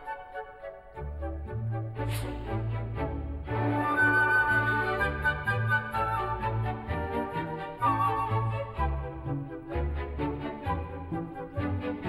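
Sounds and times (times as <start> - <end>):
cartoon background music: 0.0 - 12.0.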